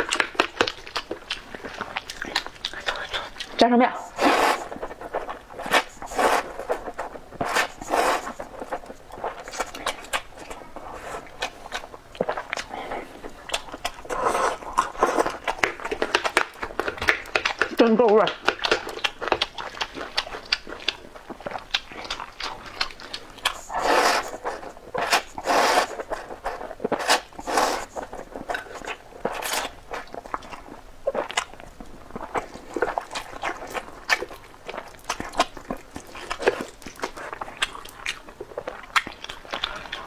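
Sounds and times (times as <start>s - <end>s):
noodle slurping: 0.0s - 40.0s
wet chewing and lip-smacking: 0.0s - 40.0s.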